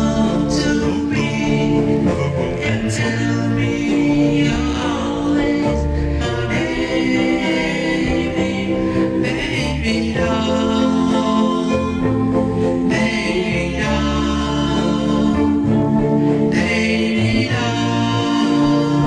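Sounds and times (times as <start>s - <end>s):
band backing: 0.0s - 19.0s
bass line: 0.0s - 19.0s
vocal group singing harmonies: 0.0s - 19.0s.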